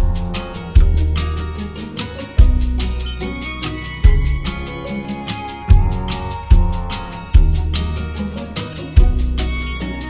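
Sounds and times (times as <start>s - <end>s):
heavy bass notes: 0.0s - 10.0s
quick percussion beat: 0.0s - 10.0s.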